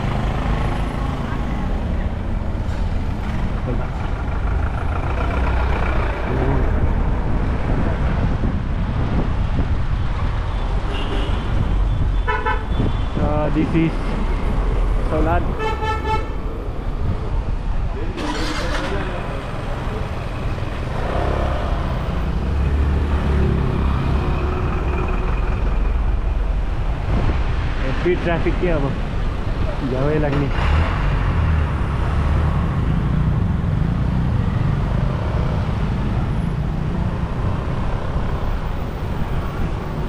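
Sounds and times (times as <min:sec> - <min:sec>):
road traffic engines rumbling: 0:00.0 - 0:40.0.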